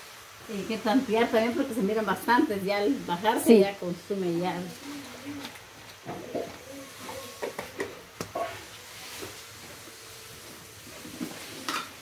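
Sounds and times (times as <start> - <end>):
greens hissing in a pot: 0.0 - 12.0.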